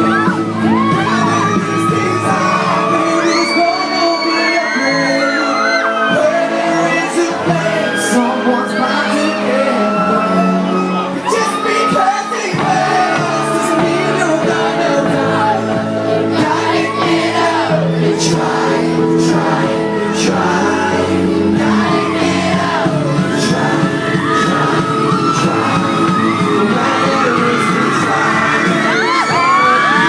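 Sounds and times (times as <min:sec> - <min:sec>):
crowd shouting and whooping: 0:00.0 - 0:30.0
live pop song with vocals: 0:00.0 - 0:30.0.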